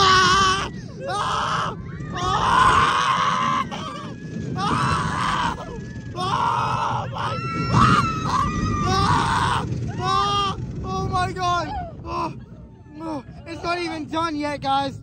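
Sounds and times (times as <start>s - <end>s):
riders screaming: 0.0s - 14.2s
low rumble of ride: 0.0s - 15.0s.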